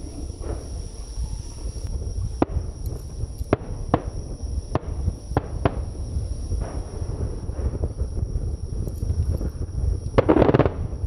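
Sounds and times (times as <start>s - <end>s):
firework shells booming: 0.0s - 11.0s
steady low rumble: 0.0s - 11.0s.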